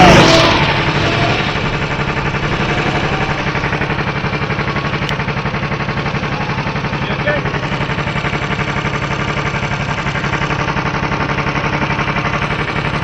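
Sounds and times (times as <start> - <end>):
go-kart engine running: 0.0 - 13.0.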